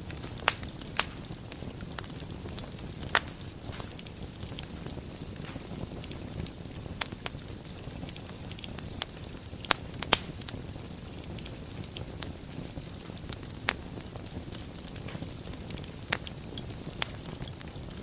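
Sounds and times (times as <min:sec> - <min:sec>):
fire crackling: 0:00.0 - 0:18.0
fire popping: 0:00.0 - 0:18.0
wood fire rumbling and hissing: 0:00.0 - 0:18.0.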